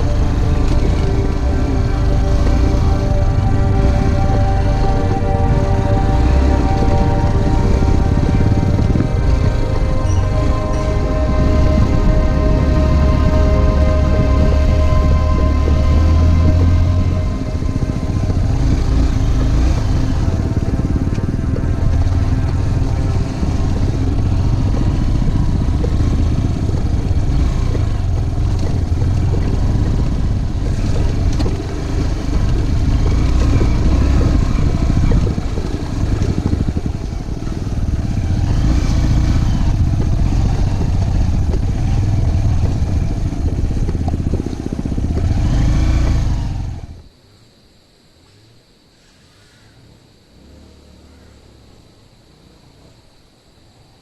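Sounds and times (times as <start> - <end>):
motorcycle engine revving: 0.0 - 47.1, 50.3 - 53.0.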